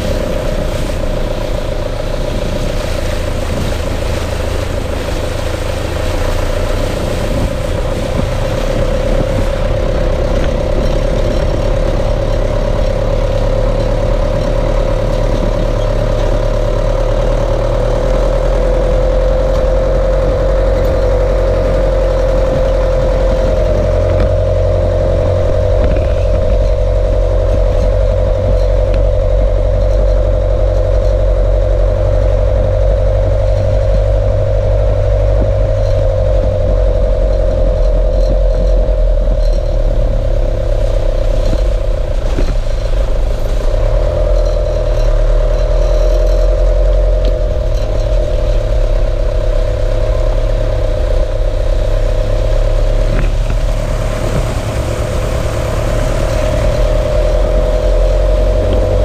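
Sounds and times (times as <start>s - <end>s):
steady whine: 0.0s - 59.0s
vehicle engine low rumble: 0.0s - 59.0s.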